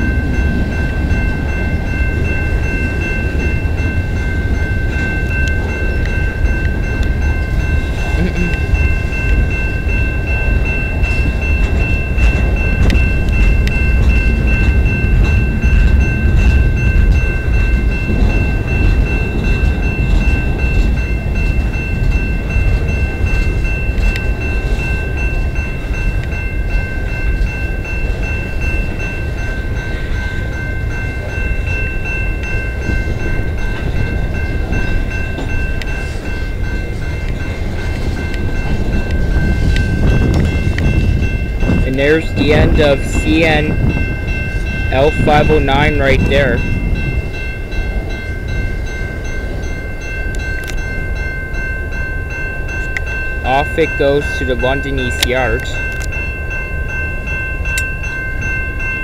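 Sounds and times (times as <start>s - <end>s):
crossing signal bell ringing: 0.0s - 59.0s
train wheels rumbling on rail: 0.0s - 59.0s.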